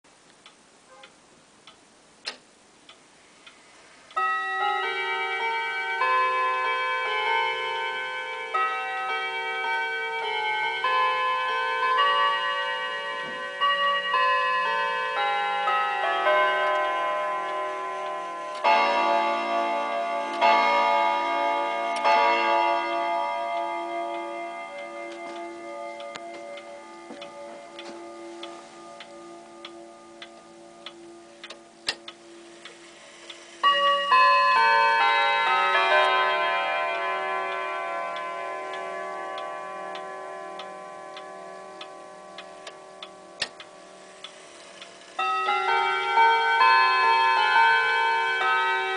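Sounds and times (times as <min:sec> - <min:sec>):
clock striking the hour: 0:00.4 - 0:48.9
clock chiming on gong rods: 0:04.1 - 0:48.9.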